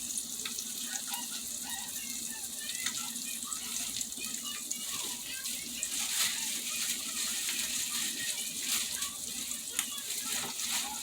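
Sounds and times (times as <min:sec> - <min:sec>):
food frying in a pan: 0:00.0 - 0:11.0.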